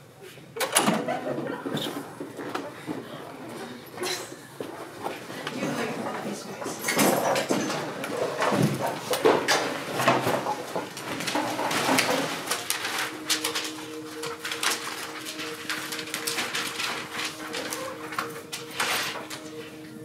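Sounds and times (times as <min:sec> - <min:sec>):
papers rustling and pages turning: 0:01.5 - 0:20.0.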